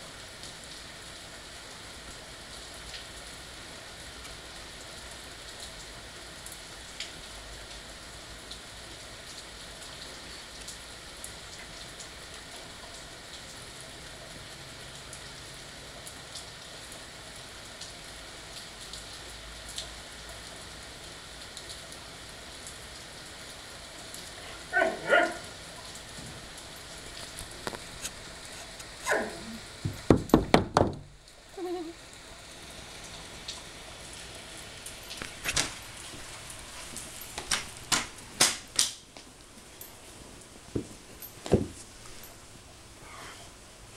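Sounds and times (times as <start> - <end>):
light rain on concrete: 0.0 - 43.9.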